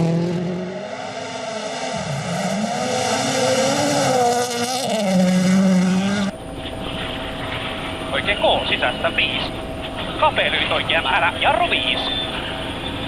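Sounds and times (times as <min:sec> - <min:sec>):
rally car engine running hard: 0:00.0 - 0:13.0.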